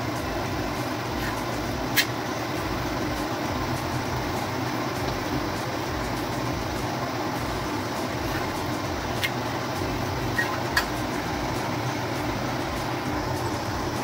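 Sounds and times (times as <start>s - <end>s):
whooshing kitchen background noise: 0.0s - 14.0s.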